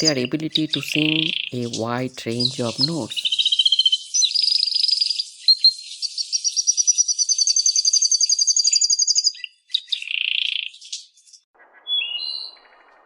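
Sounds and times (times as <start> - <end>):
canary trilling: 0.0 - 11.3.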